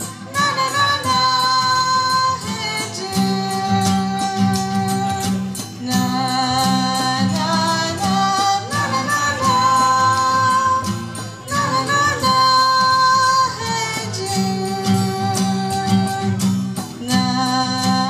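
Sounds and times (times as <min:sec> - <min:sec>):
guitar rhythm: 0:00.0 - 0:18.0
woman singing slow melody: 0:00.0 - 0:18.0.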